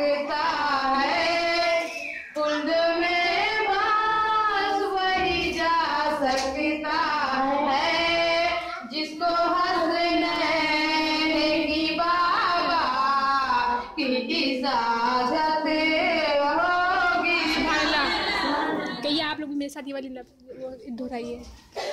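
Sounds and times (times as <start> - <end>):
woman singing unaccompanied: 0.0 - 19.4.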